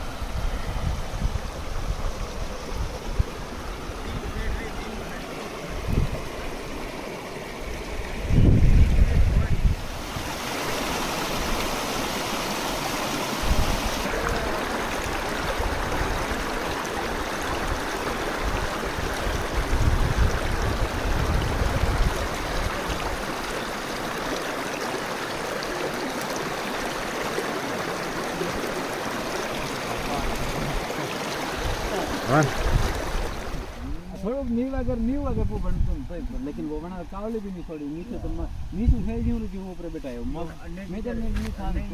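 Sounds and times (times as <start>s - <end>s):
water rushing over rocks: 0.0s - 34.9s.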